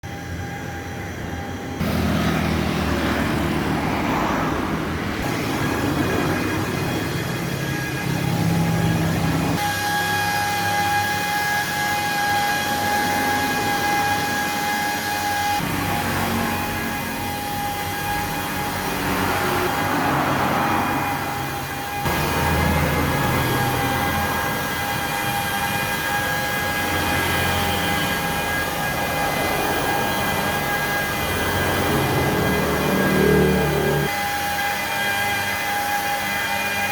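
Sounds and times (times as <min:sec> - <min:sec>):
machine whine: 0:00.0 - 0:36.9.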